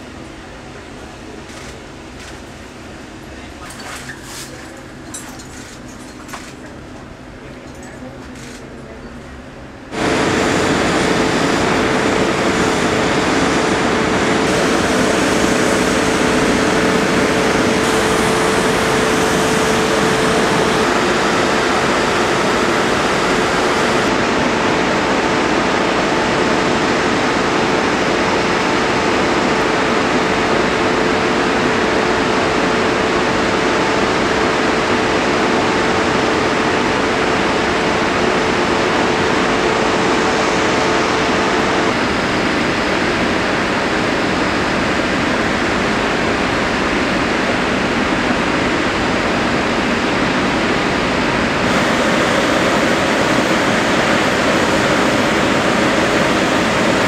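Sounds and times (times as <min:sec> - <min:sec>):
jet engine roaring and whining: 0:09.9 - 0:57.0.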